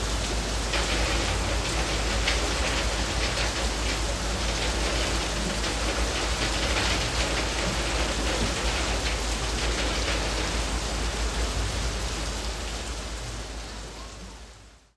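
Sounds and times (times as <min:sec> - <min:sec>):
heavy rain on leaves: 0:00.0 - 0:14.9.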